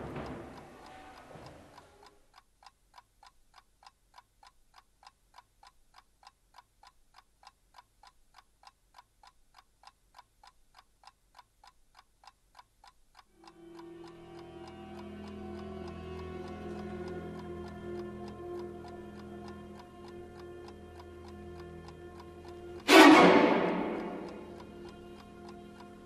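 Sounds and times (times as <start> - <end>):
clock ticking: 0.0 - 26.0.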